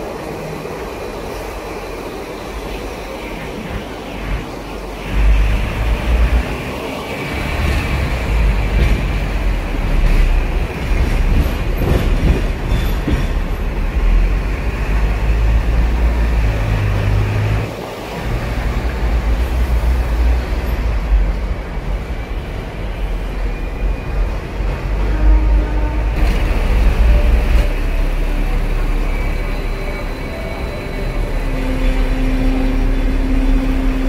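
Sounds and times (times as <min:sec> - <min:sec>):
tram motor: 0:00.0 - 0:34.0
tram wheels rumbling on rails: 0:00.0 - 0:34.0.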